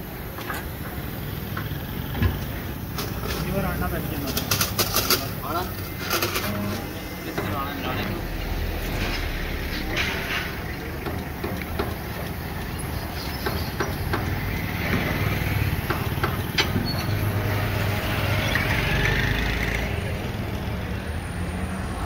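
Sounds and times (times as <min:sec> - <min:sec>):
tyre changer motor humming: 0:00.0 - 0:21.9.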